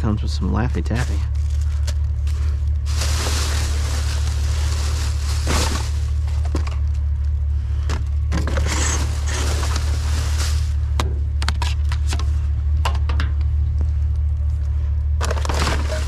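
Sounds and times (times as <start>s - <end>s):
steady low hum: 0.0s - 16.0s
trash rustling and scraping: 0.8s - 7.2s, 7.8s - 13.5s, 15.2s - 16.0s.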